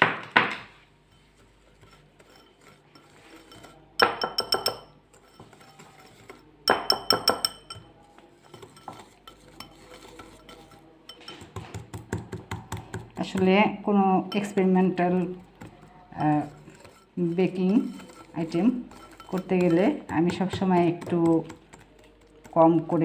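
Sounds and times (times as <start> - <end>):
utensil clinking against bowl: 1.1 - 13.6, 14.3 - 22.6.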